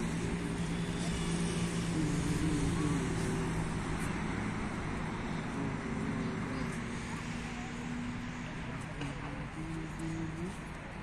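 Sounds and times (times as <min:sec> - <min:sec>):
city traffic hum: 0:00.0 - 0:11.0
faint distant voices: 0:00.0 - 0:11.0.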